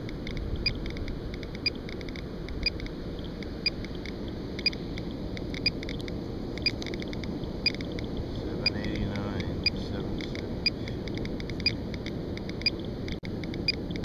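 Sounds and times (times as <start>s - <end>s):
geiger counter clicking rapidly: 0.0s - 14.0s
louder geiger counter tick: 0.0s - 14.0s.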